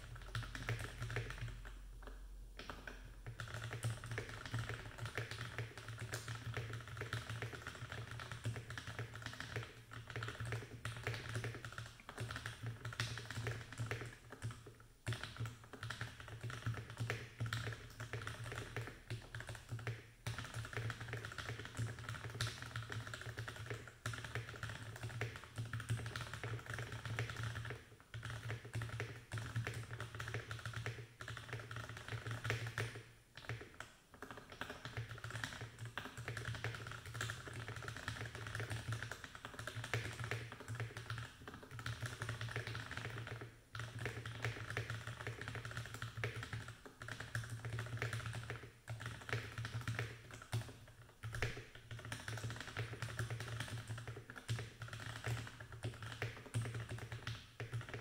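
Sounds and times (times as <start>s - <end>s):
mechanical keyboard typing: 0.0s - 58.0s.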